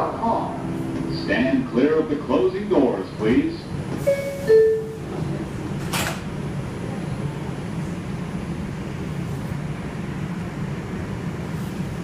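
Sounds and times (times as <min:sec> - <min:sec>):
subway car hum and rumble: 0:00.0 - 0:12.0.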